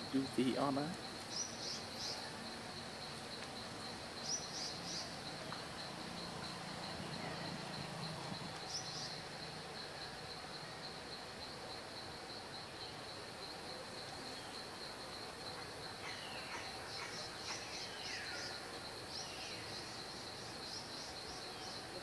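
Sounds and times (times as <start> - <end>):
high insect trill: 0.0 - 22.0.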